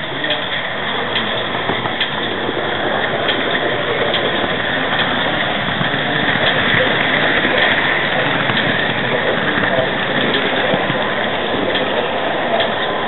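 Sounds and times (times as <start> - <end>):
faint clicks at rail joints: 0.0 - 13.0
model train rattling on track: 0.0 - 13.0.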